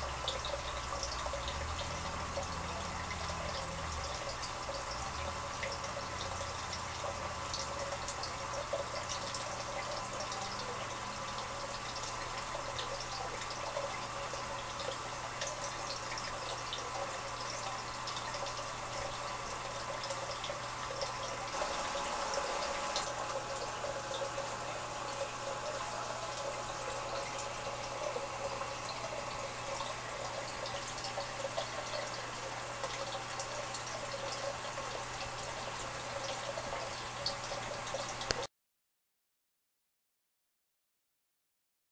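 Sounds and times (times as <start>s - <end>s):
aquarium water trickling and bubbling: 0.0s - 38.5s.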